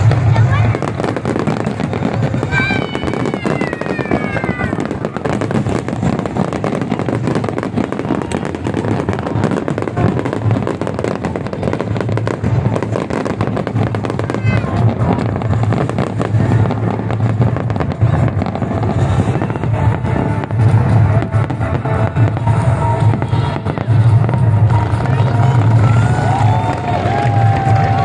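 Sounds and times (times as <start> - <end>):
fireworks crackling and bursting: 0.0 - 28.0.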